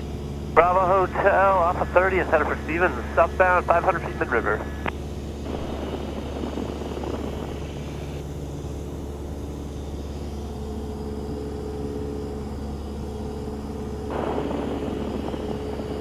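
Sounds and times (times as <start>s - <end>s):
airplane engine droning: 0.0s - 16.0s.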